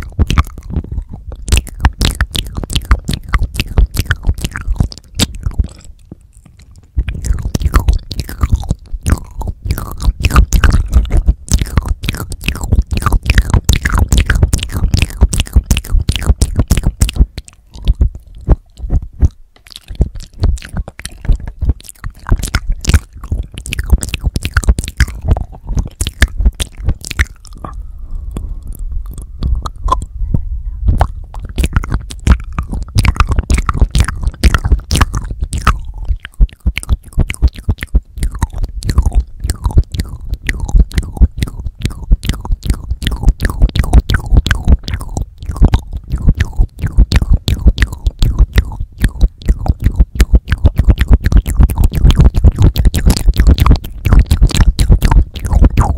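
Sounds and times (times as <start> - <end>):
wet mouth licking and smacking: 0.0 - 30.1, 30.9 - 55.9.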